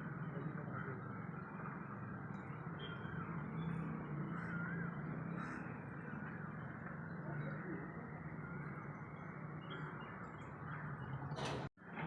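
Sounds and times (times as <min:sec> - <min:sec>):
faint bird chirps: 0:00.2 - 0:11.3.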